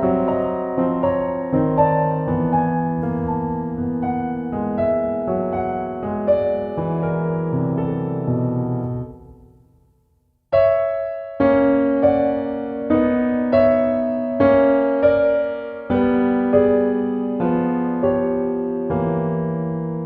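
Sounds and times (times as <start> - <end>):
solo piano chords: 0.0 - 20.0.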